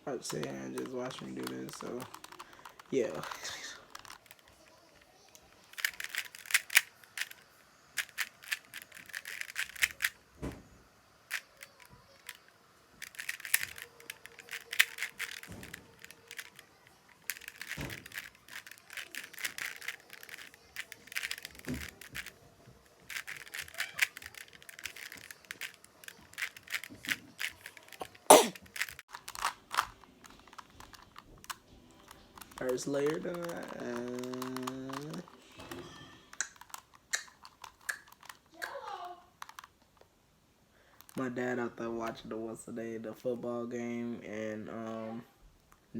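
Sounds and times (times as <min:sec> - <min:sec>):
plastic cube clicking and clacking: 0:00.3 - 0:10.2, 0:11.3 - 0:38.8, 0:39.4 - 0:40.0.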